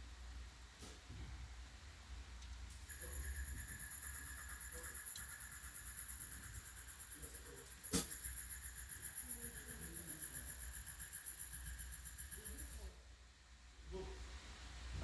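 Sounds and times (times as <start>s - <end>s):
sharp click: 0.0s - 12.9s
high-pitched electrical whine: 0.0s - 13.0s.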